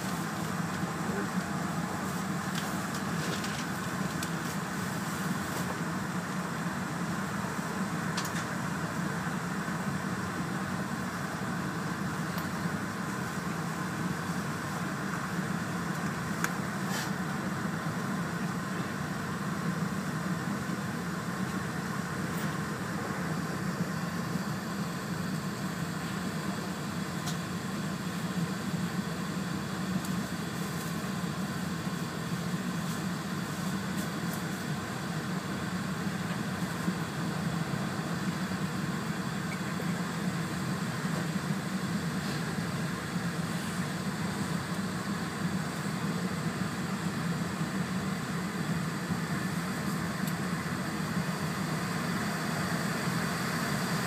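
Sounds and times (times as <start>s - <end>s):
train cabin hum and hiss: 0.0s - 54.0s.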